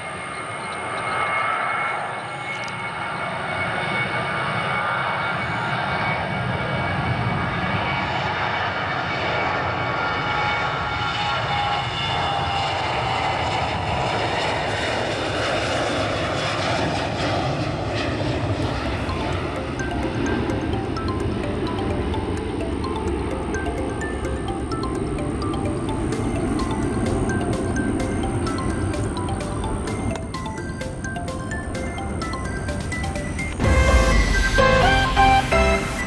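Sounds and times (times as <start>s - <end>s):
jet engines at takeoff thrust: 0.0s - 36.0s.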